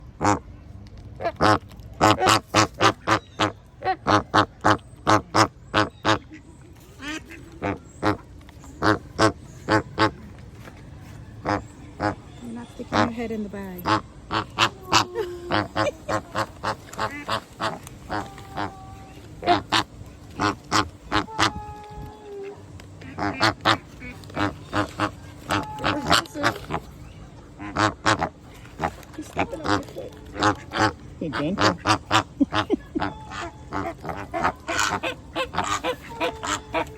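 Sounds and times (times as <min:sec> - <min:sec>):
flamingos honking: 0:01.1 - 0:10.6, 0:11.2 - 0:36.9.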